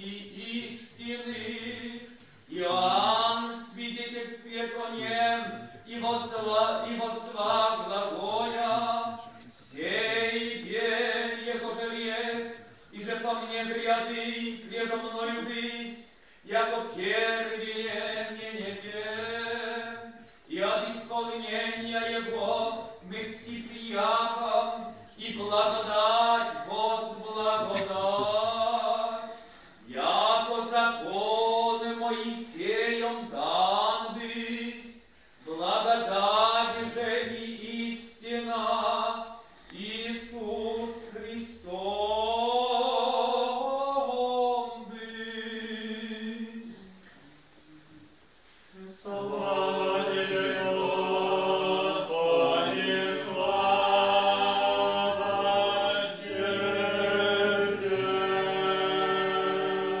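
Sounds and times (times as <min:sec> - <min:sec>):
choir chanting: 0:00.0 - 0:47.0, 0:48.8 - 1:00.0.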